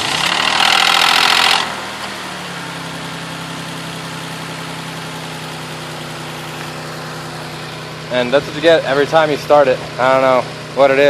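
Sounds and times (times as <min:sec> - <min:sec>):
car engine idling: 0:00.0 - 0:11.0
loud engine rattle: 0:00.0 - 0:11.0.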